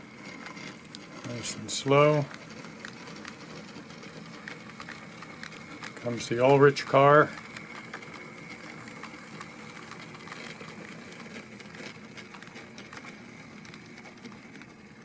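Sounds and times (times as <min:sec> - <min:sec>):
model train motor hum: 0:00.0 - 0:15.0
wheels clicking on rails: 0:00.0 - 0:15.0.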